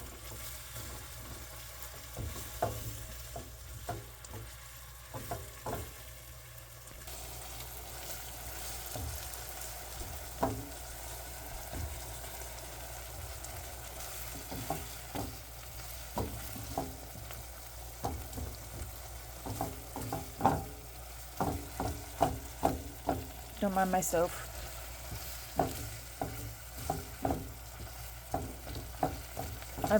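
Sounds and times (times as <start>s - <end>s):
meat sizzling in a frying pan: 0.0s - 29.9s.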